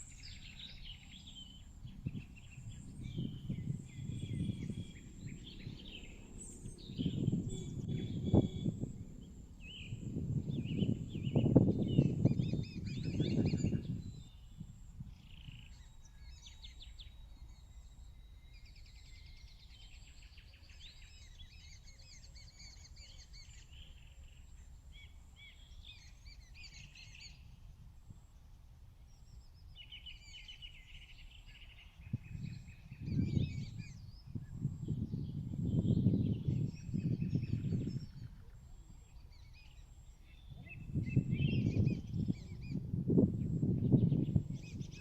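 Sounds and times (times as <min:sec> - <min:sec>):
birds chirping and trilling: 0:00.0 - 0:14.5, 0:15.1 - 0:27.4, 0:29.1 - 0:45.0
faint steady hum: 0:00.0 - 0:45.0.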